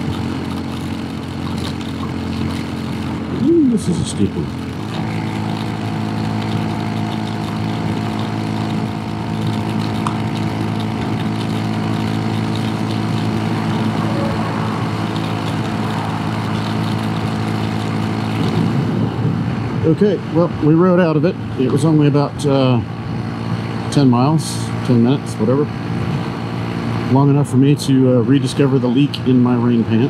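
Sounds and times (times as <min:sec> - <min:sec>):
motorcycle engine under load: 0:00.0 - 0:30.0
wind and road noise: 0:00.0 - 0:30.0.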